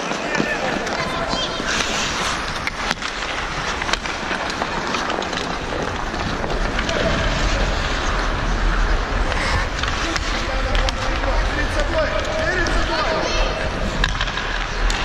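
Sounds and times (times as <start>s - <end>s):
skate blades scraping on ice: 0.0s - 15.0s
low rumble: 1.7s - 15.0s.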